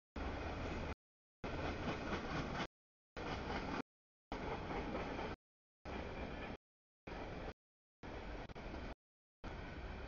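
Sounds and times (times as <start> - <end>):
wheels rumbling on rail: 0.2 - 10.0.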